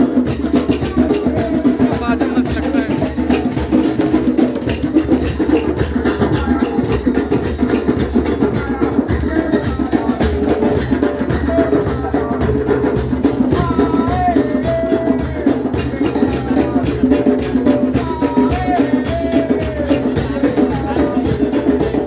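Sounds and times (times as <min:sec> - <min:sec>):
djembe hand drum: 0:00.0 - 0:22.0
drumming on steel pots: 0:00.0 - 0:22.0.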